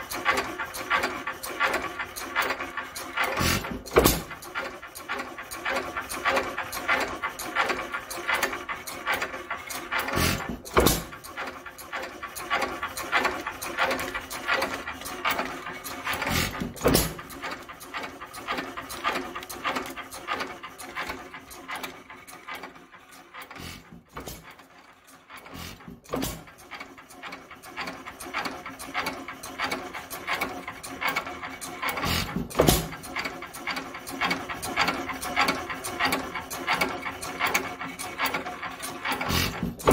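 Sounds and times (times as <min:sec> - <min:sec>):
stationary engine clattering: 0:00.0 - 0:39.9.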